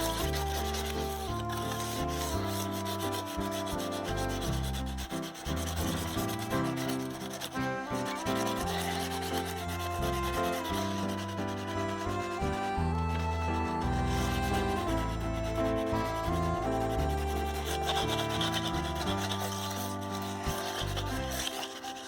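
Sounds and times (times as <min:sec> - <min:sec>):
background music with chords: 0:00.0 - 0:22.0
scratchy rubbing noise: 0:00.0 - 0:22.0.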